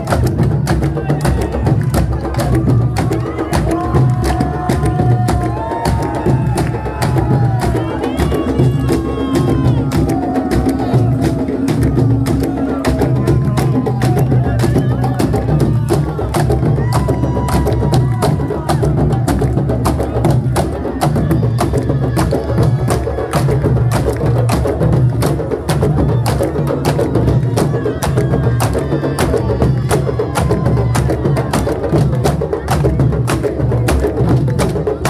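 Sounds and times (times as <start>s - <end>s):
deep booming drums: 0.0s - 35.0s.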